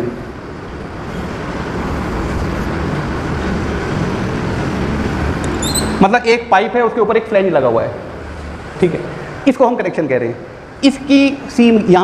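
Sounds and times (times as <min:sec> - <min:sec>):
steady rumbling background noise: 0:00.0 - 0:12.0.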